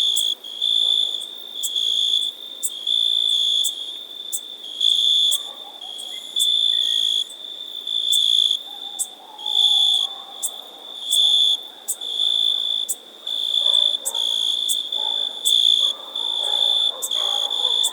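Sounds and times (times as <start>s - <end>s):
insects chirping in pulses: 0.0s - 17.9s.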